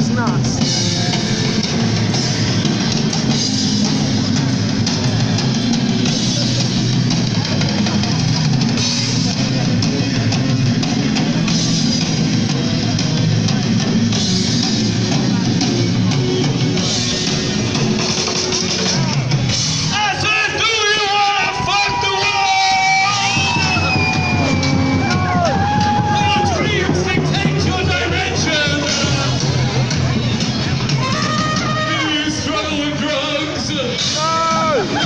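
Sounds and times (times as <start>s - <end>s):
punk rock band playing: 0.0s - 35.0s.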